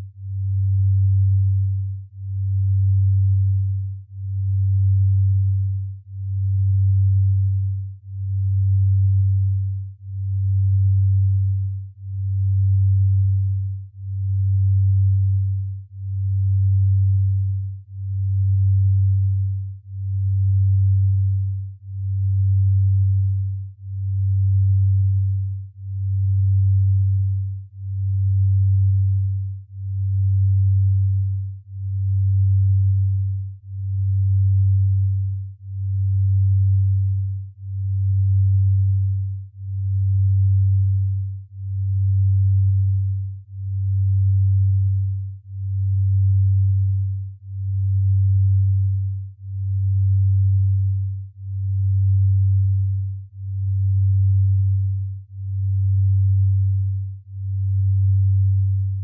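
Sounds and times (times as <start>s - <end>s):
low pulsing synthesized tone: 0.0s - 59.0s.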